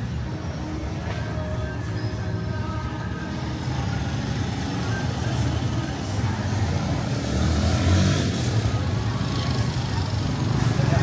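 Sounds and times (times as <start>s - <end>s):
vehicles passing: 0.0s - 11.0s.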